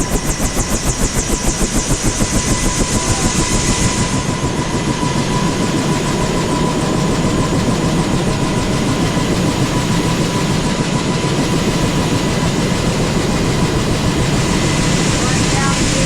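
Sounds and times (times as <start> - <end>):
helicopter rotor and engine noise: 0.0 - 16.0
helicopter turbine whine: 0.0 - 16.0.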